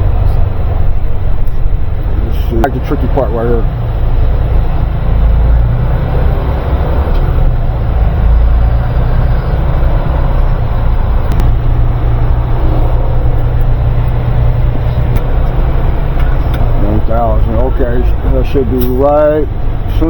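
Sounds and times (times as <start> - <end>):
diesel engine rumble: 0.0 - 20.0
road noise: 0.0 - 20.0.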